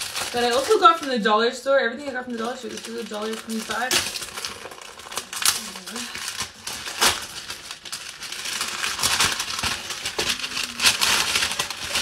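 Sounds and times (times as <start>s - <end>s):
wrapper ripping open: 0.0s - 1.2s, 2.3s - 12.0s
wrapper crinkling and rustling: 0.0s - 12.0s.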